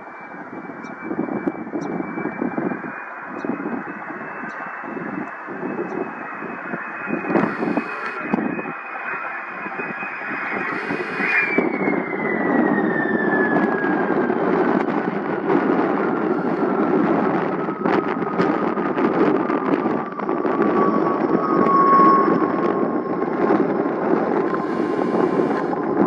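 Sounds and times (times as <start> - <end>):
jet engine whine: 0.0 - 26.0
steady rushing noise: 0.0 - 26.0.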